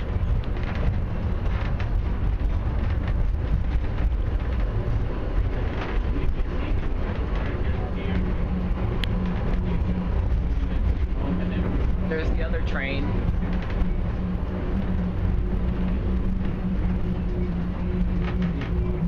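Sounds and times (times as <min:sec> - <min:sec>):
low hum: 0:00.0 - 0:19.0
train running gear rumble: 0:00.0 - 0:19.0.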